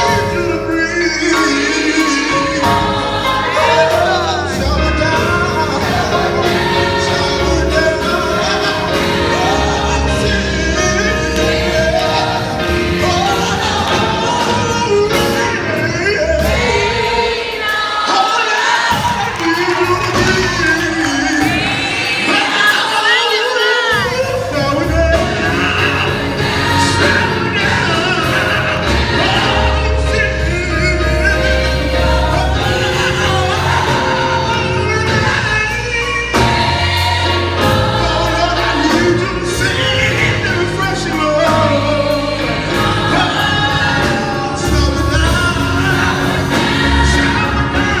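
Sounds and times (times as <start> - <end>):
steady bass: 0.0 - 17.1, 24.2 - 48.0
gospel choir singing: 0.0 - 48.0.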